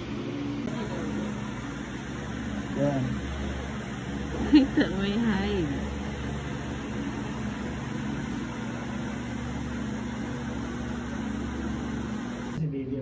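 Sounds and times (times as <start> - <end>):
steady machine hum and hiss: 0.0 - 13.0.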